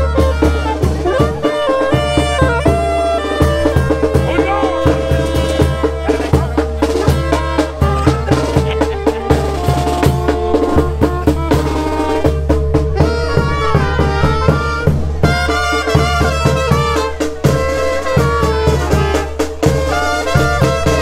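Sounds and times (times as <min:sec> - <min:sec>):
band music with brass and drums: 0:00.0 - 0:21.0.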